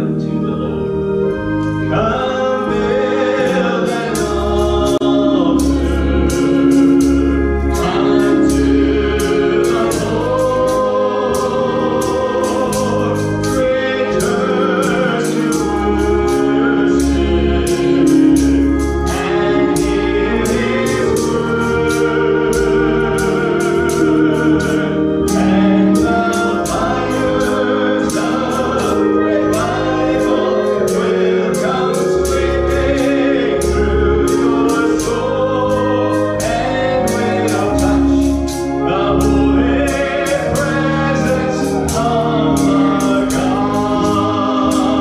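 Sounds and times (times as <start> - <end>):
man singing into a microphone: 0.0 - 6.8, 7.7 - 18.4, 19.0 - 45.0
sustained organ: 0.0 - 45.0
light ticking beat: 3.9 - 45.0.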